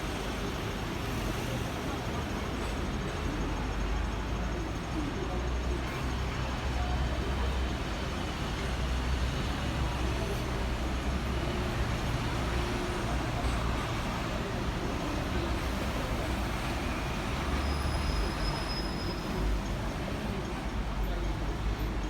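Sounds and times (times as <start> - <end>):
road traffic: 0.0 - 22.0
tram rumbling: 0.0 - 22.0.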